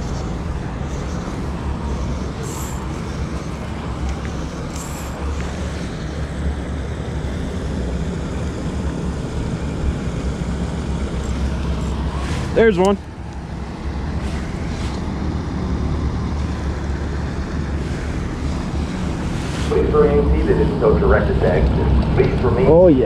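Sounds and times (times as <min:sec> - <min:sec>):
vehicle engines rumbling: 0:00.0 - 0:23.0.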